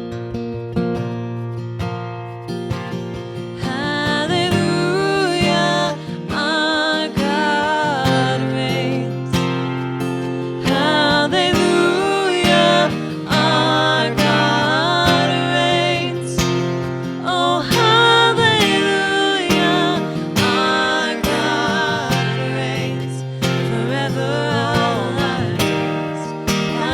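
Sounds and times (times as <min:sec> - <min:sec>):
strummed acoustic guitar: 0:00.0 - 0:26.9.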